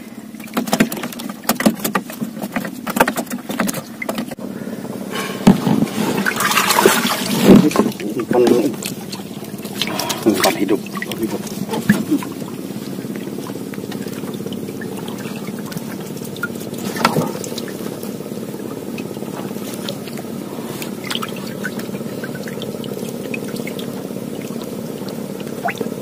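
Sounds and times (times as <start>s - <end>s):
boat engine humming: 0.0s - 26.0s
water lapping around hull: 0.0s - 26.0s.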